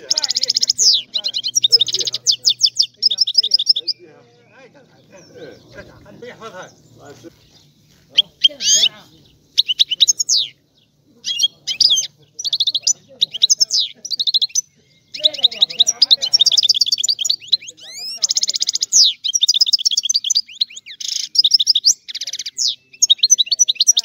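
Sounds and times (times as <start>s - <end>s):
goldfinch singing: 0.0s - 24.0s.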